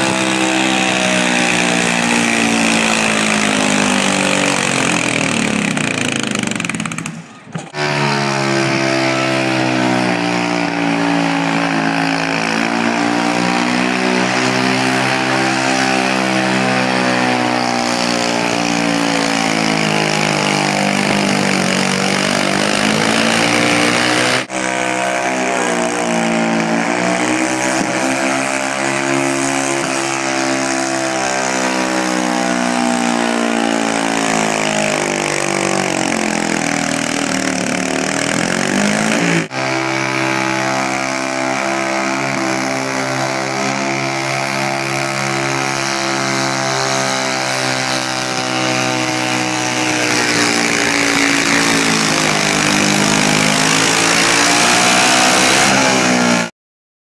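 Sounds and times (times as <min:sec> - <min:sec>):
tractor engine revving hard: 0:00.0 - 0:56.5.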